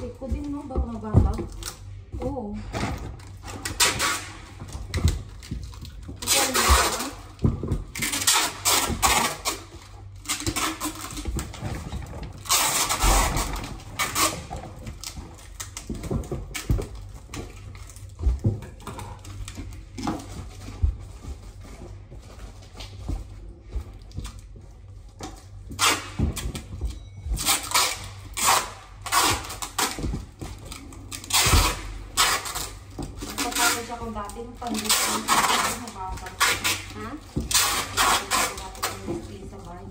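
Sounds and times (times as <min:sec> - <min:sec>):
packaging rustling and crinkling: 0:00.0 - 0:39.9.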